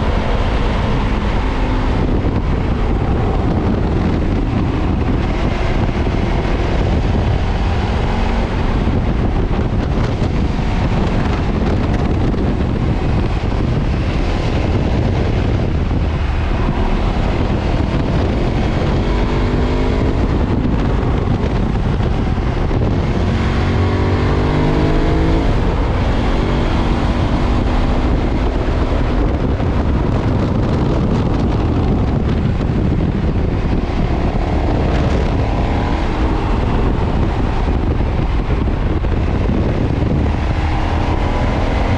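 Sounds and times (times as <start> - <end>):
motorcycle engine revving: 0.0 - 41.9
wind on microphone: 0.0 - 41.9.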